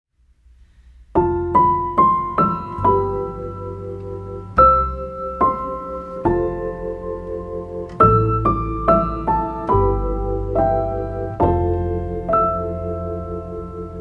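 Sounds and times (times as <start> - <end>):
rising single notes and chords: 1.2 - 14.0.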